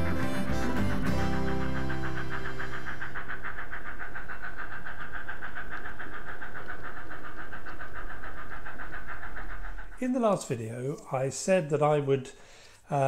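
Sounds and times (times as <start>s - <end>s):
model train whirring: 0.0s - 11.7s.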